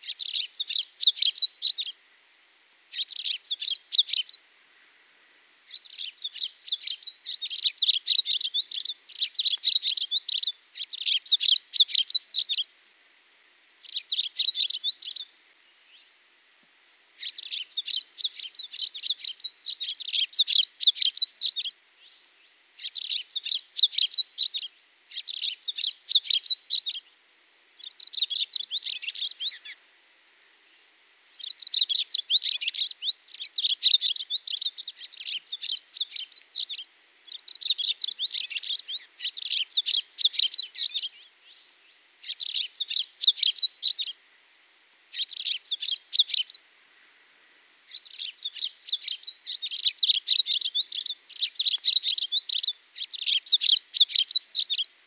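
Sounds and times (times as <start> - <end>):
small bird chirping: 0.0 - 2.0, 2.9 - 4.4, 5.7 - 16.1, 17.2 - 27.1, 27.7 - 44.2, 45.1 - 46.6, 47.9 - 55.0.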